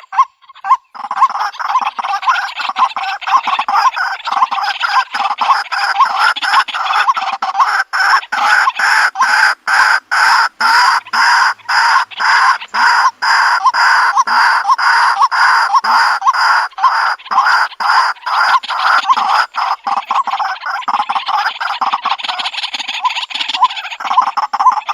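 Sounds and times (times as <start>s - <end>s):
waterhen calling: 0.0s - 24.9s.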